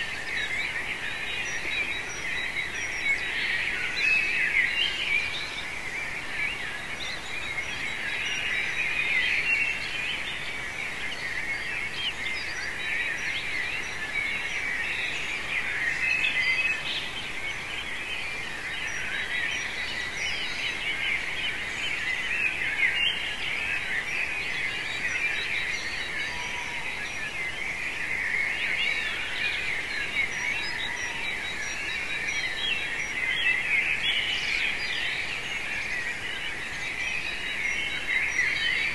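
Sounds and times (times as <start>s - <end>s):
birds singing: 0.0s - 38.9s
low background hiss: 0.0s - 38.9s.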